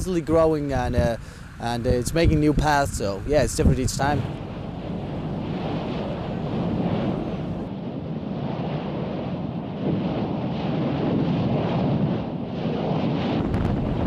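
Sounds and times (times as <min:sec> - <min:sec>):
wind buffeting microphone: 0:00.0 - 0:14.0
lava spattering low rumble: 0:00.2 - 0:14.0.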